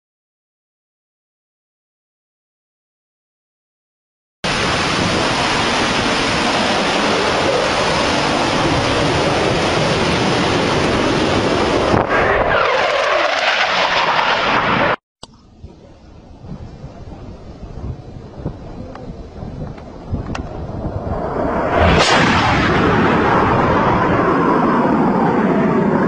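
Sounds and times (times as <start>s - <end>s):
jet roar: 4.4s - 15.0s, 15.6s - 26.0s
faint wind: 4.5s - 26.0s.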